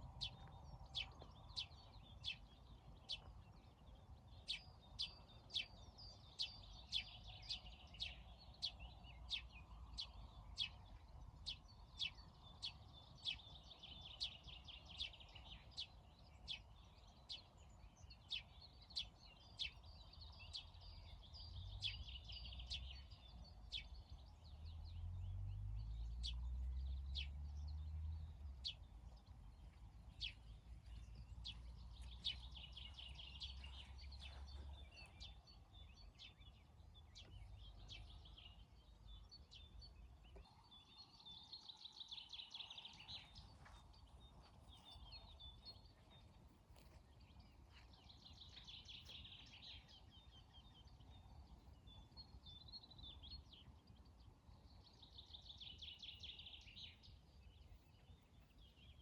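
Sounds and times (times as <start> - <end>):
bird chirps: 0.0 - 59.0.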